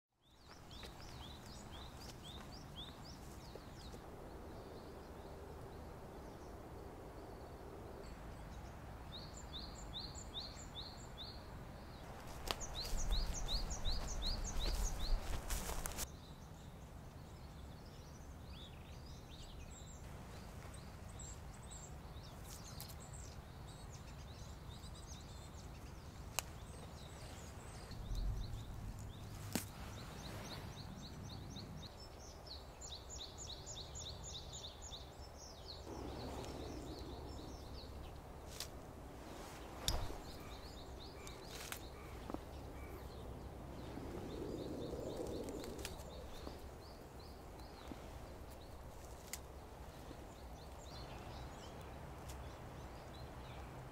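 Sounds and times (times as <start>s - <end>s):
small birds singing: 0.1s - 53.9s
wind rumble: 0.3s - 16.7s, 23.1s - 53.9s.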